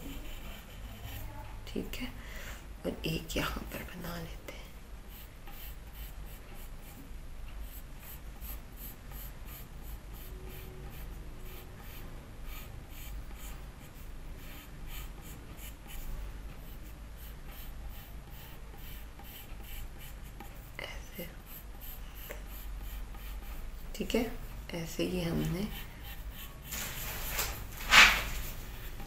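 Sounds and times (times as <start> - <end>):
pencil scratching on paper: 0.0 - 1.4, 5.1 - 7.0, 7.6 - 24.4, 25.1 - 29.0
steady low hum: 0.0 - 29.0.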